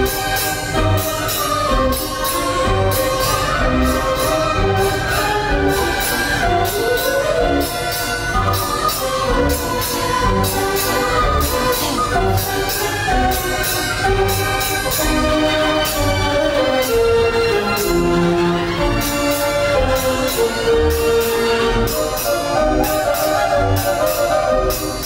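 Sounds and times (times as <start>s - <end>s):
orchestral music: 0.0s - 25.0s.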